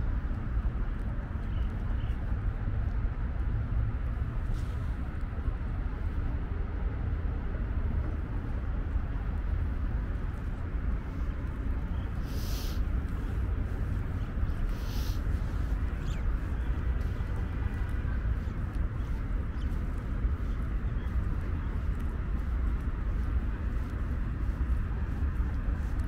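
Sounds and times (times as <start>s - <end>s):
distant traffic hum: 0.0s - 26.0s
wind rumbling on microphone: 0.0s - 26.0s.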